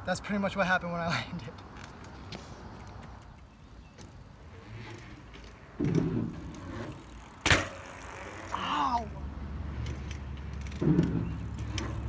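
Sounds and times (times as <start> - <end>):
bike tyres rumbling: 1.7 - 12.0.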